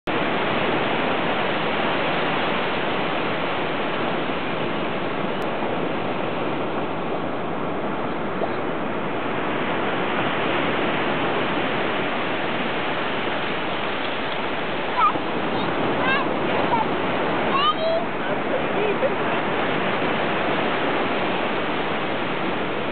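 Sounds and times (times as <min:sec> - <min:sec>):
ocean surf on sandy beach: 0:00.0 - 0:22.9.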